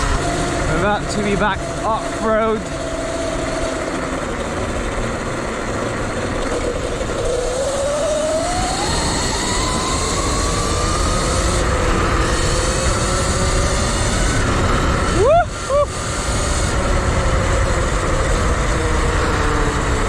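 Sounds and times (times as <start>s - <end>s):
electric motor whining: 0.0s - 20.0s
steady rushing noise: 0.0s - 20.0s.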